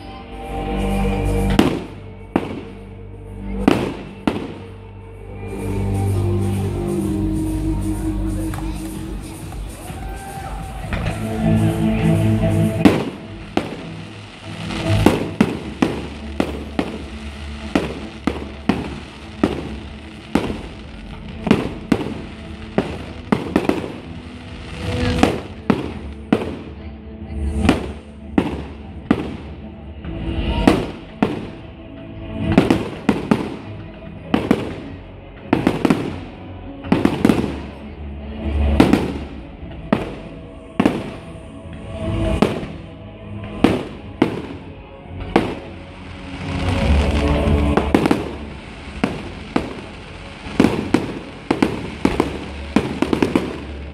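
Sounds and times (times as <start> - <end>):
faint music: 0.0 - 53.9
fireworks bursting: 0.8 - 2.9, 3.6 - 4.8, 5.5 - 26.9, 27.5 - 29.7, 30.4 - 31.7, 32.4 - 37.9, 38.6 - 42.9, 43.5 - 53.9.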